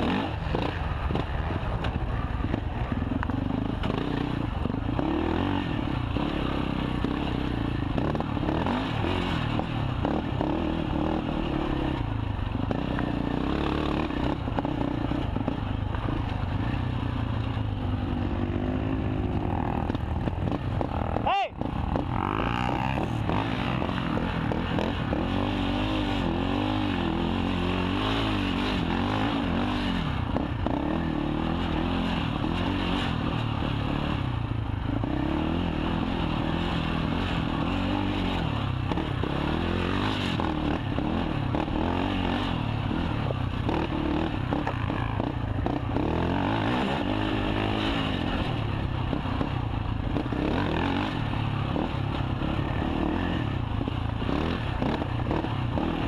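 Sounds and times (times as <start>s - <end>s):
quad engine revving: 0.0s - 1.3s, 3.2s - 17.0s, 17.8s - 56.0s.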